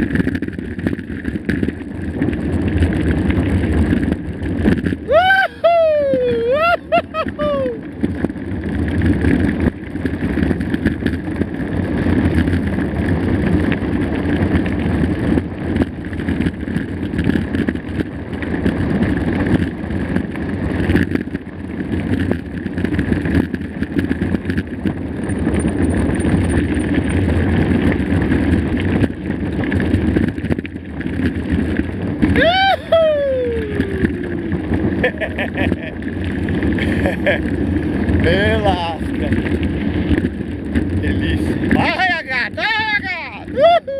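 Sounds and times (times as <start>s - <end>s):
bike frame rattling: 0.0s - 43.5s
bike tyres rumbling on stones: 0.0s - 43.9s
wind buffeting microphone: 0.0s - 43.9s.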